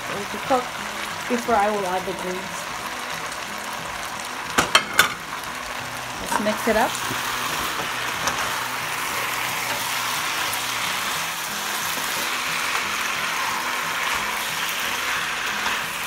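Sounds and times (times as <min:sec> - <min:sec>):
background music: 0:00.0 - 0:16.0
food sizzling in a pan: 0:00.0 - 0:16.0.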